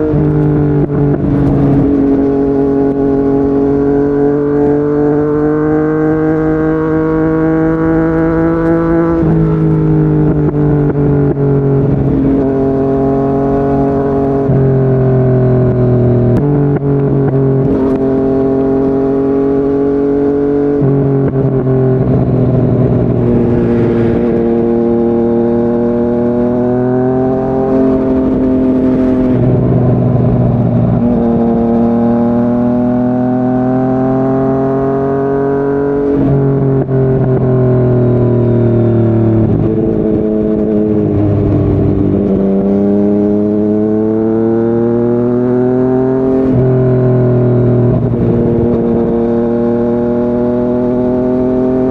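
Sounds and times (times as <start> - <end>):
motorcycle engine pulling at speed: 0.0 - 51.9.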